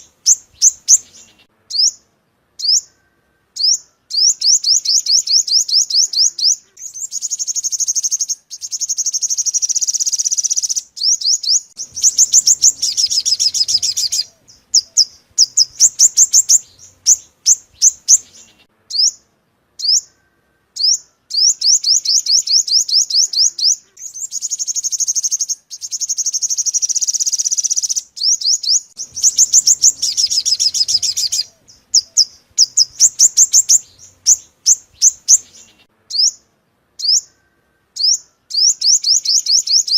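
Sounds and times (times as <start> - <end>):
sunbird high chirps and trills: 0.0 - 39.9.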